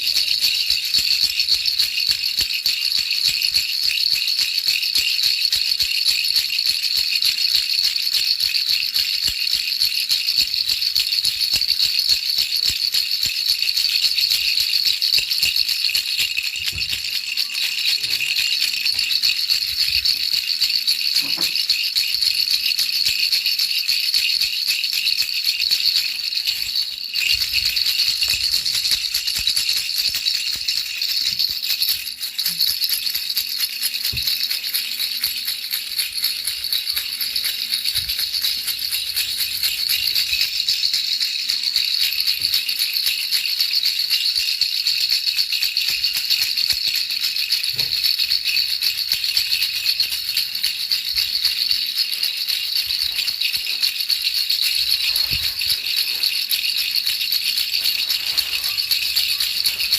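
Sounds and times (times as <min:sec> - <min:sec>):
baby rattle shaken: 0:00.0 - 0:59.9.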